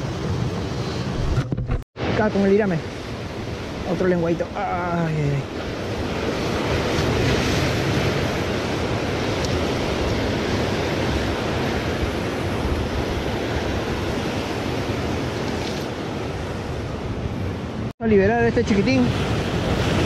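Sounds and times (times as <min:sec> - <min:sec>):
surf washing over rocky shore: 0:02.0 - 0:20.0.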